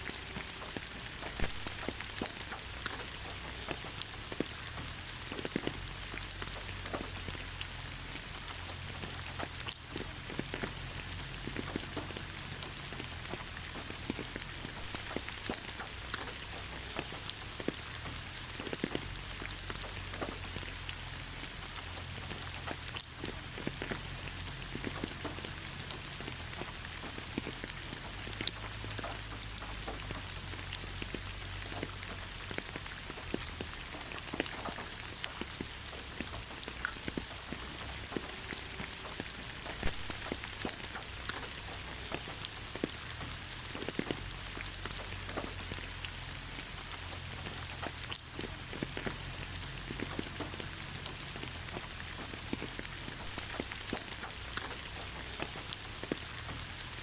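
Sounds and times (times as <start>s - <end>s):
rain hissing: 0.0s - 57.0s
raindrops striking a surface: 0.0s - 57.0s.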